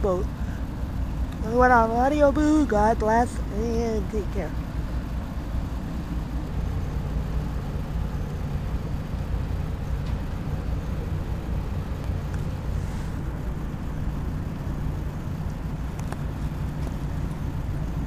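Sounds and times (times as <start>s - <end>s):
ship engine low rumble: 0.0s - 18.0s.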